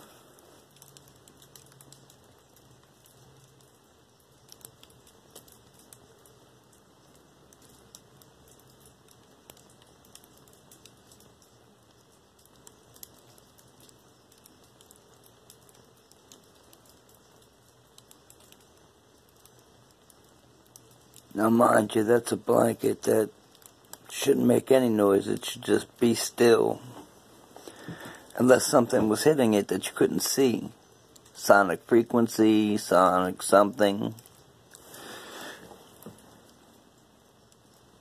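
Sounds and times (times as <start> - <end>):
low hiss: 0.0 - 38.0.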